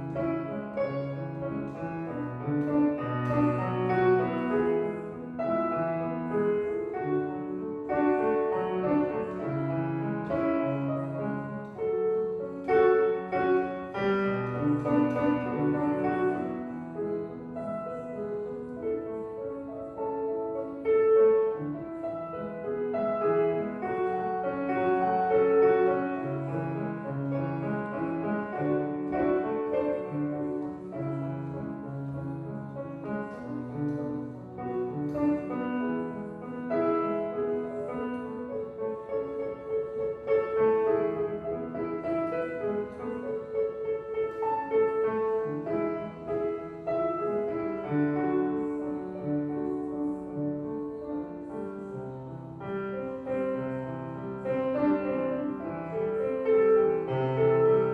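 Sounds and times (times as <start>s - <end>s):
slow piano tune: 0.0s - 57.9s.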